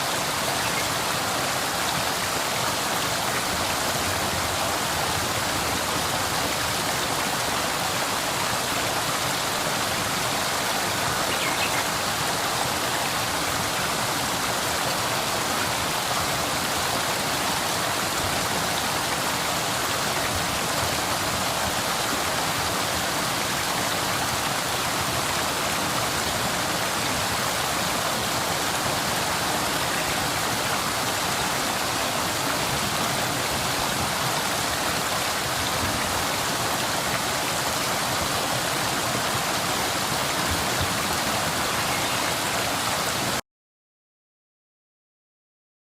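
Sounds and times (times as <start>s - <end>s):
small waterfall splashing: 0.0s - 43.4s.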